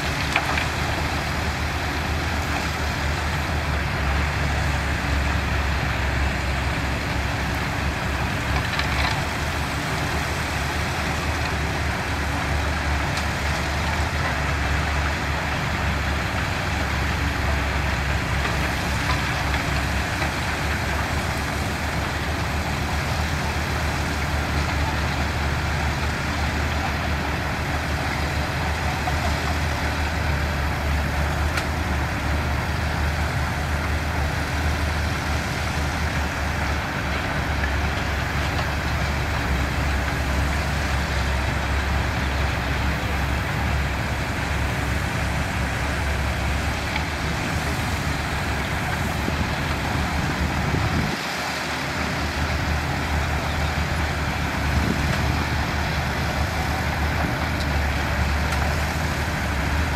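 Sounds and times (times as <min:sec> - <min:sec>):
diesel machinery engine running: 0:00.0 - 0:59.9.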